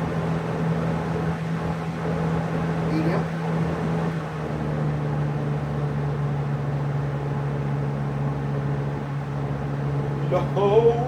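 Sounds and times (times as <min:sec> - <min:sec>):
box fan motor hum: 0:00.0 - 0:11.0.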